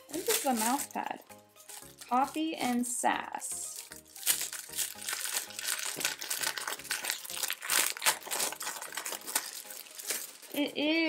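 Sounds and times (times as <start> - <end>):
packaging crinkling: 0.0 - 3.0, 3.6 - 10.8.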